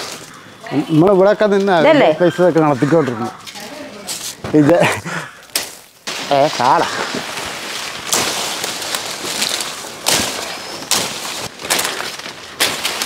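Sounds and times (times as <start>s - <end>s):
leafy plants rustling: 0.0s - 13.0s.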